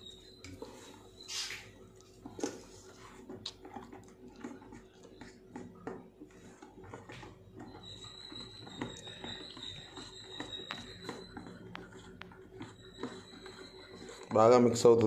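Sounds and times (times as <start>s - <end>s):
spoon scraping wet mash in bowl: 2.3s - 15.0s.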